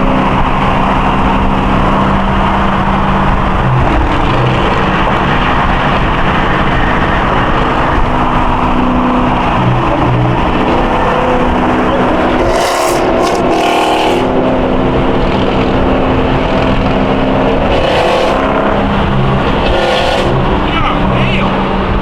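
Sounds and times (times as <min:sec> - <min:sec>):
car engine cruising: 0:00.0 - 0:22.0
road noise: 0:00.0 - 0:22.0.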